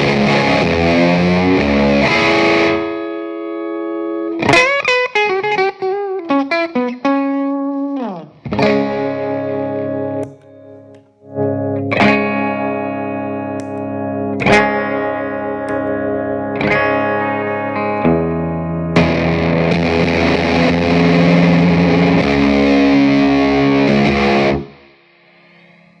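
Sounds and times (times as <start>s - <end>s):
distorted electric guitar chords: 0.0s - 26.0s.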